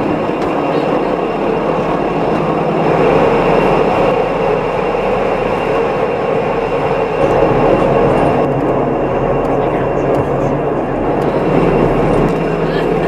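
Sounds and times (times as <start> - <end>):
cogwheel railcar running in tunnel: 0.0 - 13.0.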